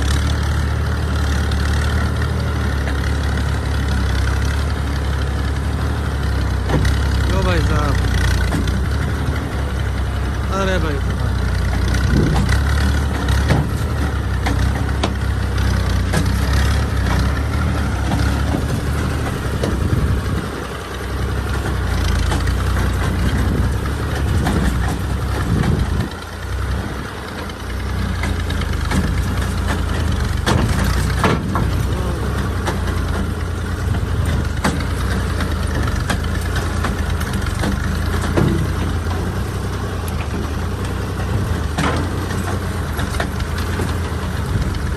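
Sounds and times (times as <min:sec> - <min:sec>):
tractor diesel engine rumbling: 0:00.0 - 0:44.9.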